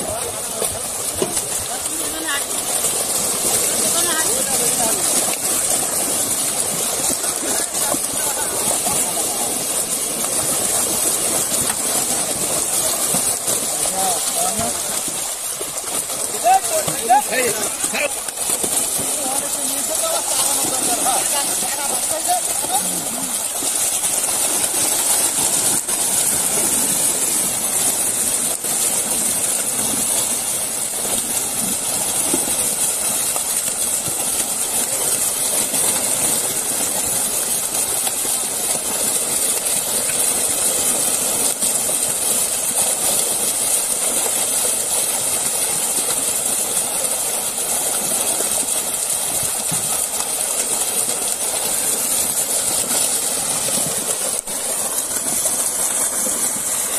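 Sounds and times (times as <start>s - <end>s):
fish splashing in water: 0.0s - 56.9s.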